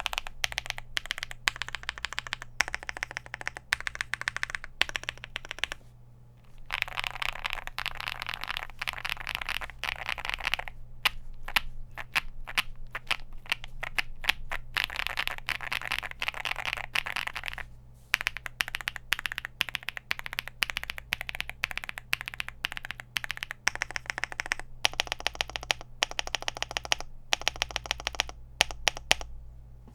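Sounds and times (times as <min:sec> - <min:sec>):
mechanical keyboard typing: 0:00.0 - 0:05.8, 0:06.5 - 0:29.3.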